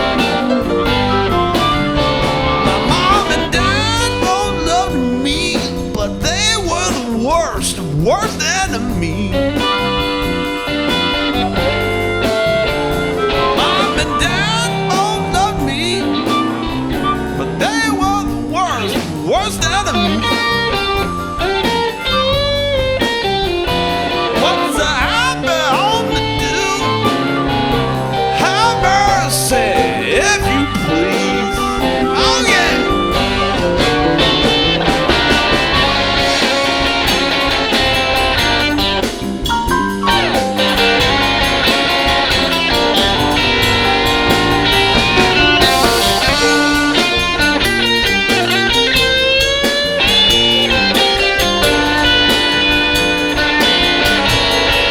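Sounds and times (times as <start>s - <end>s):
blues band playing: 0.0s - 54.9s
electric guitar bent notes: 0.0s - 54.9s.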